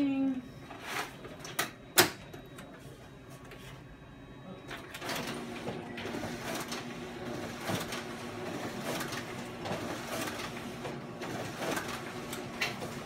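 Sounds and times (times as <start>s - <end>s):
copier motor hum: 0.0s - 13.0s.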